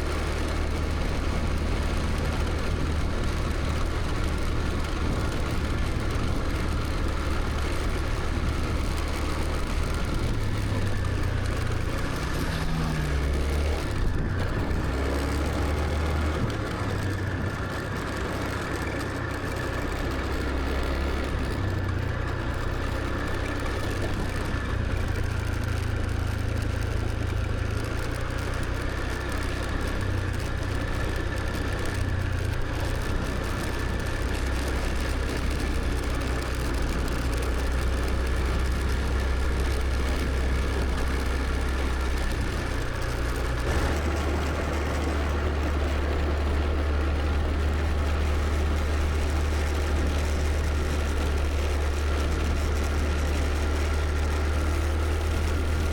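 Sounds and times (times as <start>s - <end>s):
road noise: 0.0s - 55.9s
scooter engine running: 0.0s - 55.9s.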